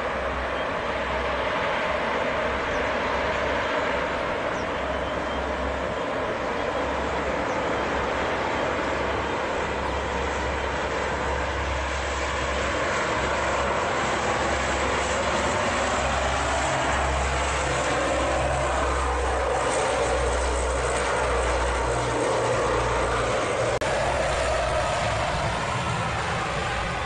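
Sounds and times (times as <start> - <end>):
turboprop engines roaring: 0.0 - 27.0.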